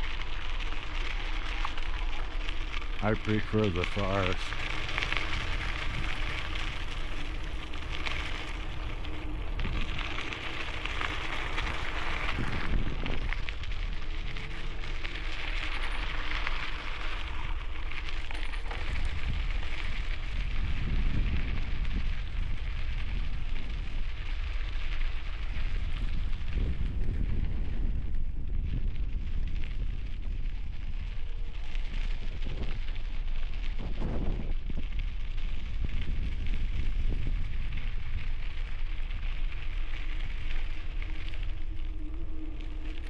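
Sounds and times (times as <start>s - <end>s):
tyres rolling on gravel: 0.0s - 28.0s, 29.1s - 43.0s
wind rumbling on microphone: 0.0s - 43.0s.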